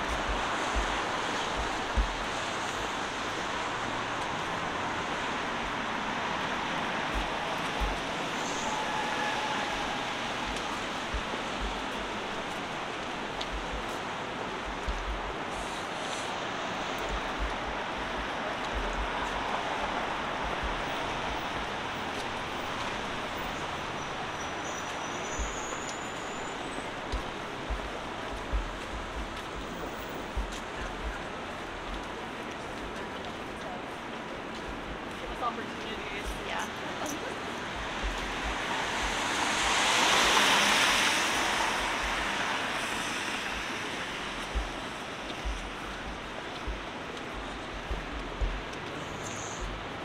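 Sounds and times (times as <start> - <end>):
city street traffic: 0.0 - 50.0.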